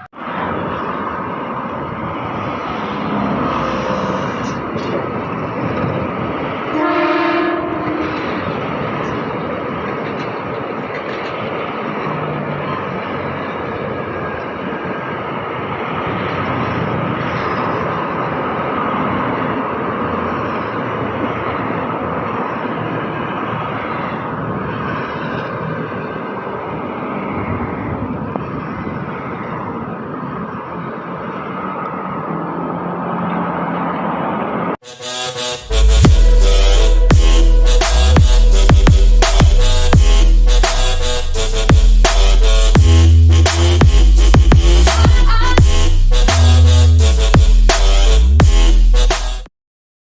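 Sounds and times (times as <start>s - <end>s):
electric train rumbling on rails: 0.0s - 49.2s.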